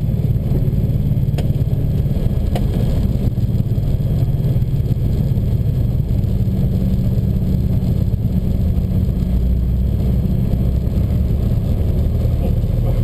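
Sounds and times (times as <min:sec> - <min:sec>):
plane engine and propeller drone: 0:00.0 - 0:13.0.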